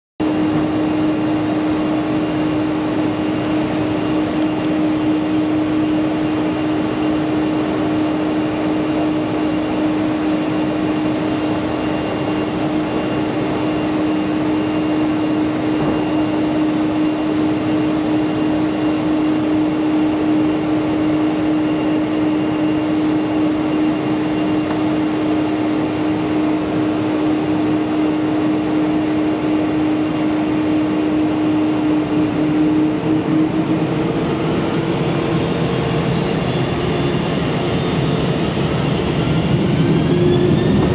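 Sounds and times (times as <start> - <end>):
airplane cabin engine hum: 0.2 - 40.9.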